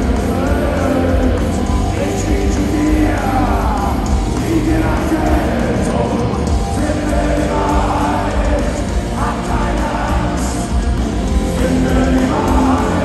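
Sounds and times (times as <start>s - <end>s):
crowd voices: 0.0s - 13.0s
drums: 0.0s - 13.0s
electric guitar: 0.0s - 13.0s
lead singer singing: 0.0s - 13.0s.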